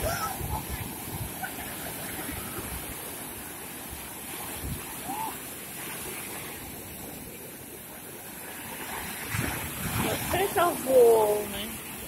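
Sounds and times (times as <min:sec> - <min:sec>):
waves breaking: 0:00.0 - 0:12.0.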